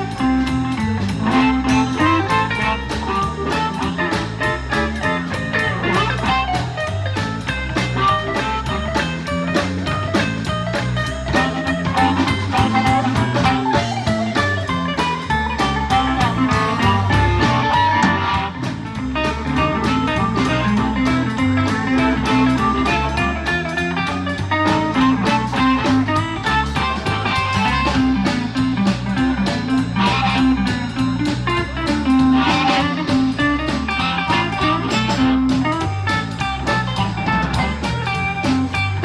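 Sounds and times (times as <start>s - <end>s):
blues band playing: 0.0s - 39.0s
electric guitar: 0.0s - 39.0s.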